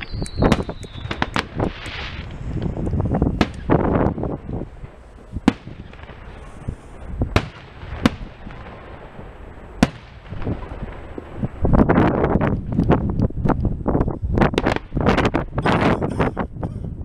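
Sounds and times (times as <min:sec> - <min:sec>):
firework shells bursting: 0:00.0 - 0:13.7.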